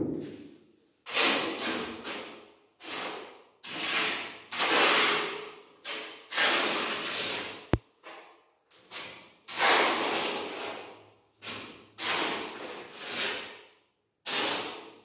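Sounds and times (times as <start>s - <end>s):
trowel scraping adhesive on tile: 1.0s - 15.0s.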